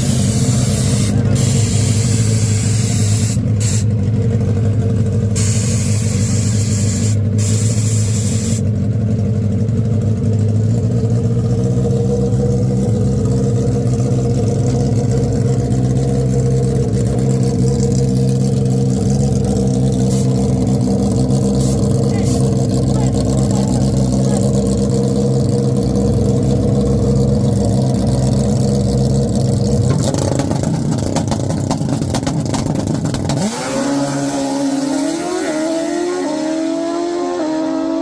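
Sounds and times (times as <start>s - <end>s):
motorcycle engine idling: 0.0s - 33.3s.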